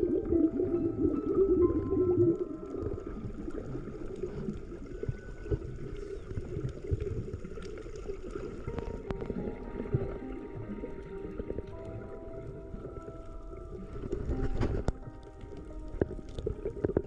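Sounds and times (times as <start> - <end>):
faint held musical tones: 0.0 - 17.0
water gurgling and sloshing: 0.0 - 17.0.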